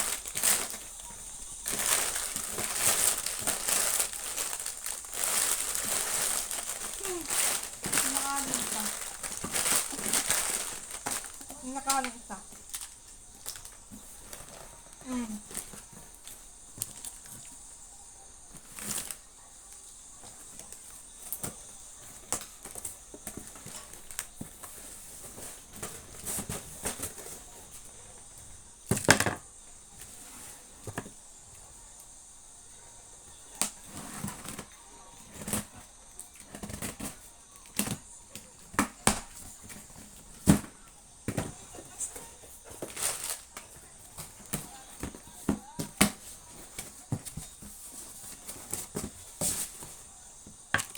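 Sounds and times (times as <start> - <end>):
wrappers rustling and crinkling: 0.0 - 31.3, 33.3 - 50.8.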